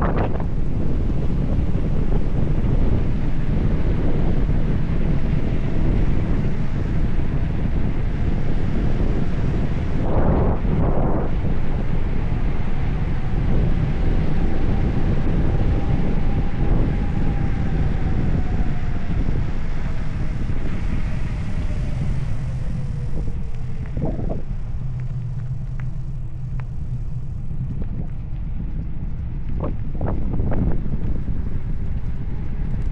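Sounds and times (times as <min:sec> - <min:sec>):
faint engine-like tone: 0:00.0 - 0:32.9
wind buffeting microphone: 0:00.0 - 0:32.9.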